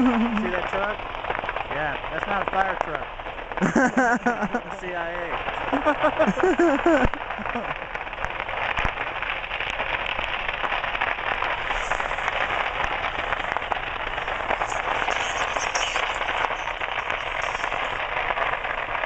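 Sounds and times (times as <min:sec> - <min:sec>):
firecrackers crackling and popping: 0:00.0 - 0:19.0.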